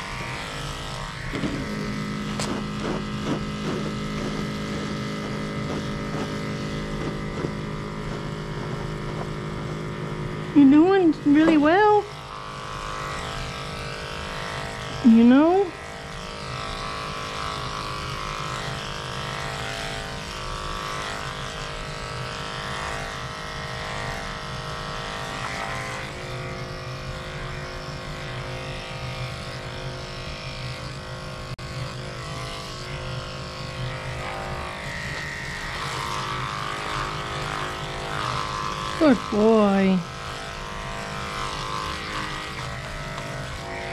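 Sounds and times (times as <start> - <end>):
electric clippers humming: 0.0 - 43.9.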